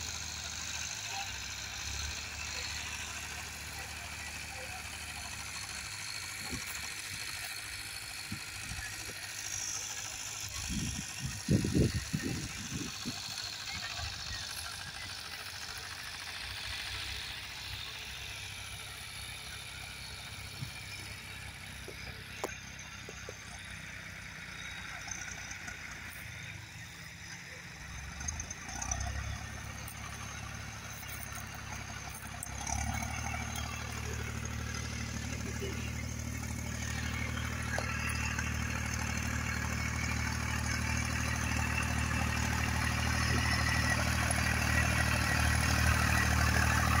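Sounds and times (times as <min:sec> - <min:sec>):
small tractor engine running: 0:00.0 - 0:47.0.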